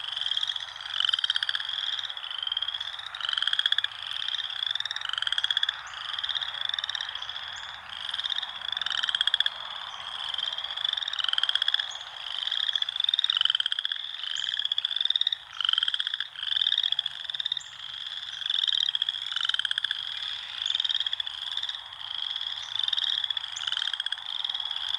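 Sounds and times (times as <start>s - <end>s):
frogs calling: 0.0s - 24.9s.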